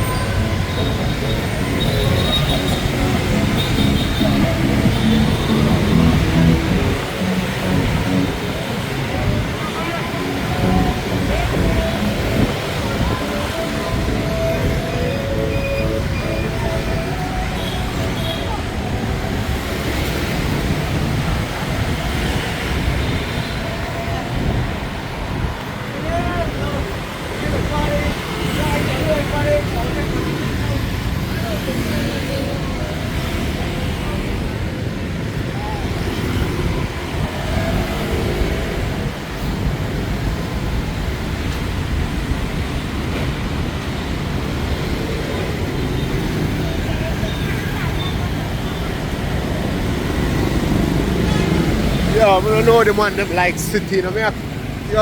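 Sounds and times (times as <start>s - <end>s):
dense street traffic: 0.0s - 55.0s.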